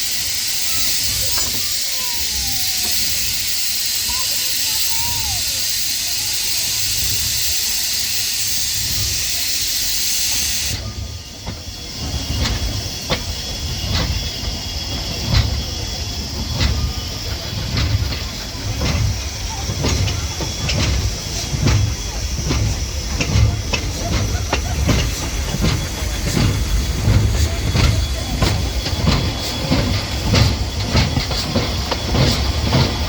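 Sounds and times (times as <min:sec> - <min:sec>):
steam locomotive hissing steam: 0:00.0 - 0:33.0
train wheels clicking on rails: 0:00.0 - 0:33.0.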